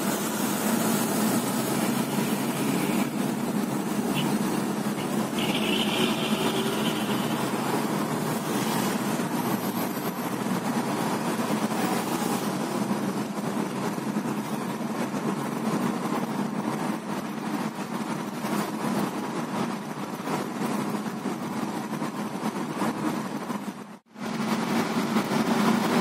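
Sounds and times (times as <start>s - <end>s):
car engine and tyre hum: 0.0s - 26.0s.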